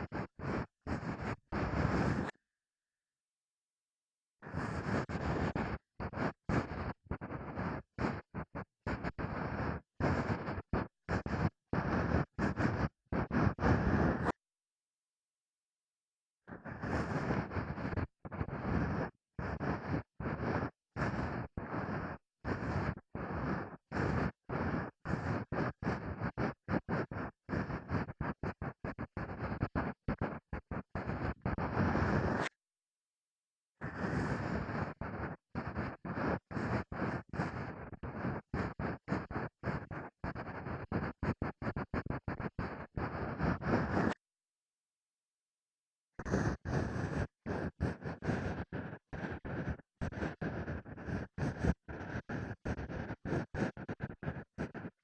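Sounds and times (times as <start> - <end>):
scratchy rubbing on microphone: 0.1 - 2.4, 4.6 - 14.4, 16.7 - 32.6, 33.8 - 44.2, 46.2 - 55.0.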